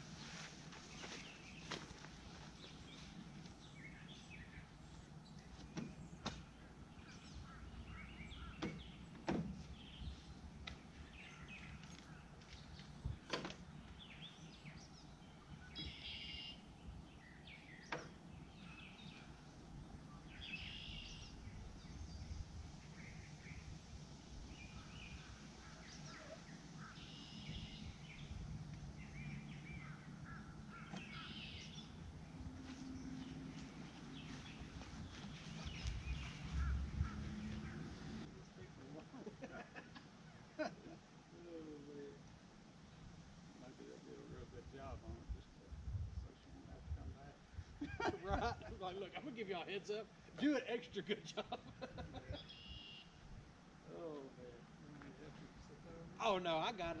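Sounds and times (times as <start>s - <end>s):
birds chirping: 0.0s - 45.0s, 47.4s - 57.0s.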